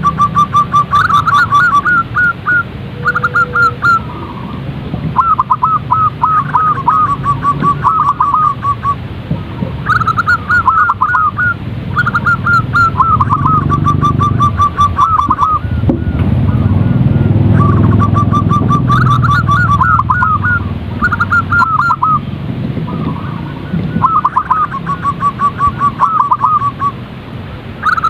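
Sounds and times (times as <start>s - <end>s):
dove cooing: 0.0s - 22.2s, 22.8s - 27.0s.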